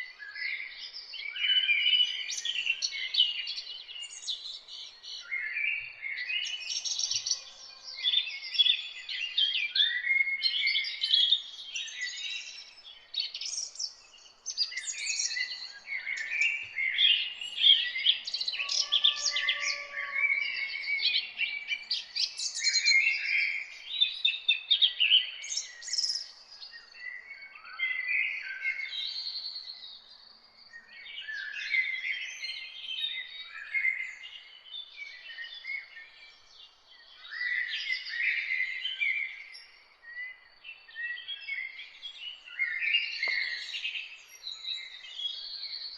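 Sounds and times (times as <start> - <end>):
small birds chirping and singing: 0.0 - 45.9.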